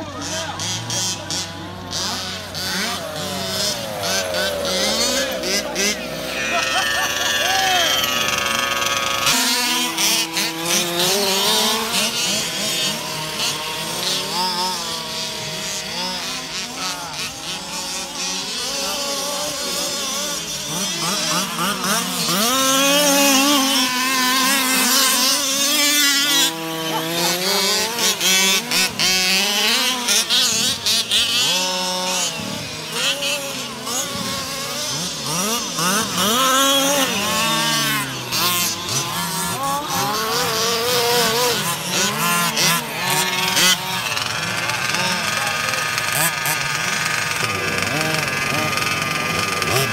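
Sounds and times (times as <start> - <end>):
small two-stroke engines revving: 0.0 - 49.9.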